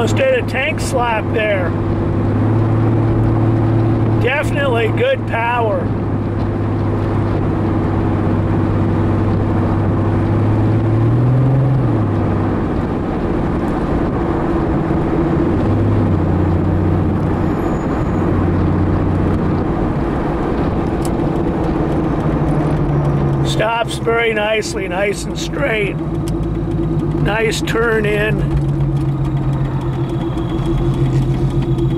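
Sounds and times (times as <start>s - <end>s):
car engine running: 0.0s - 31.9s
road and wind noise: 0.0s - 31.9s.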